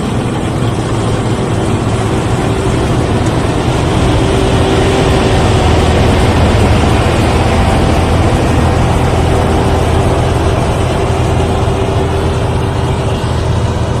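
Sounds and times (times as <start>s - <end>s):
combine harvester engine rumbling: 0.0s - 14.0s
steady hum: 0.0s - 14.0s.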